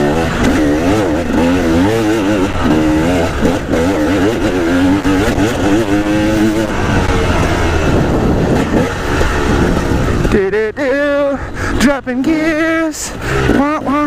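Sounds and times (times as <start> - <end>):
dirt bike engine revving: 0.0 - 14.0
rough steady rush: 0.0 - 14.0.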